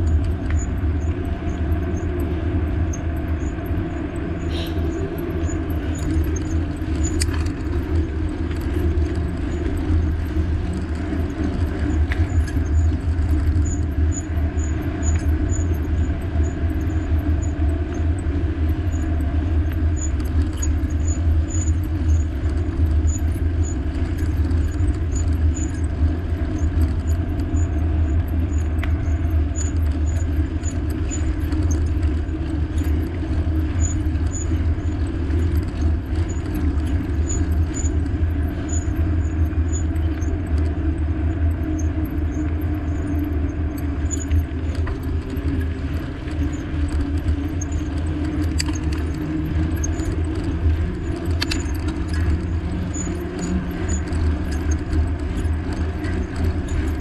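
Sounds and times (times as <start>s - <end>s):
low riding rumble: 0.0s - 57.0s.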